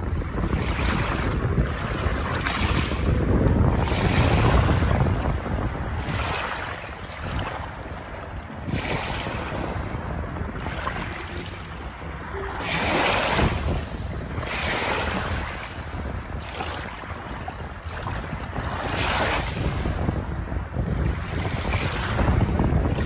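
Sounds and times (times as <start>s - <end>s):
steady low rumble: 1.4s - 23.0s.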